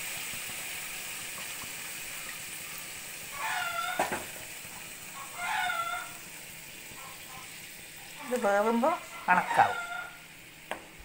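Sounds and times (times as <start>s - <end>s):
water boiling and sizzling in a pan: 0.0s - 11.0s.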